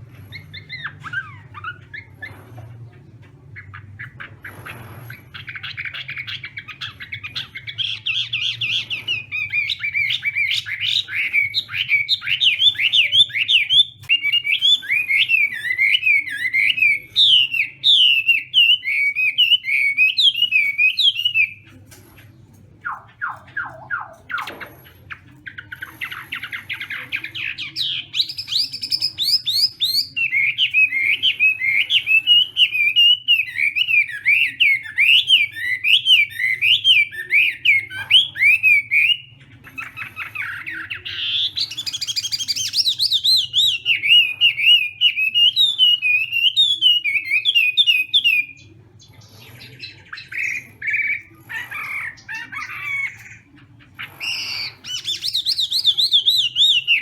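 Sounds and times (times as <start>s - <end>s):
bird singing warbling song: 0.0s - 57.0s.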